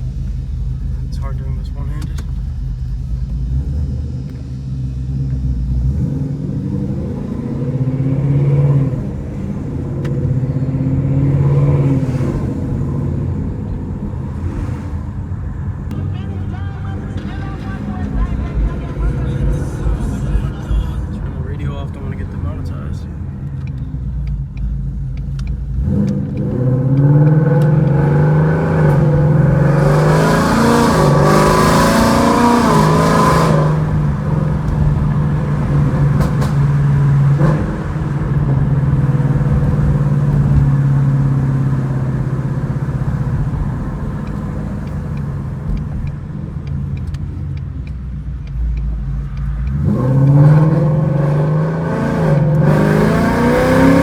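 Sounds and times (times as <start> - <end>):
car engine revving from inside: 0.0 - 16.0, 23.6 - 47.1, 48.7 - 54.0.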